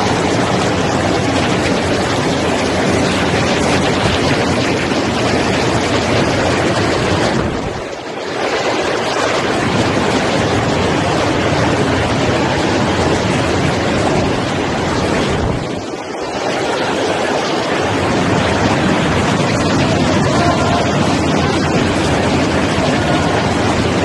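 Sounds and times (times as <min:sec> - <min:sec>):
machine running: 0:00.0 - 0:24.0
water spraying and rushing: 0:00.0 - 0:24.0.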